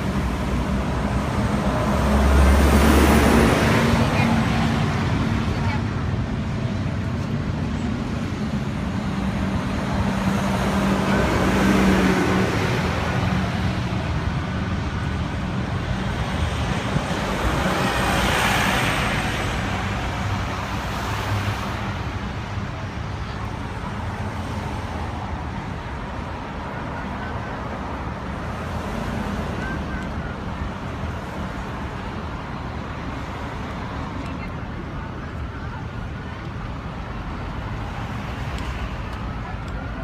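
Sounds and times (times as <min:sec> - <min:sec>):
cars driving past: 0:00.0 - 0:40.0
coach bus passing: 0:00.0 - 0:40.0.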